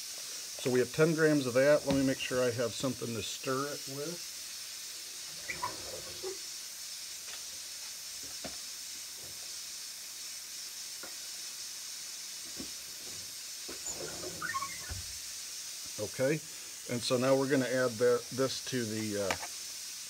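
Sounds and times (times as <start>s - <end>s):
steady high hiss: 0.0s - 20.0s.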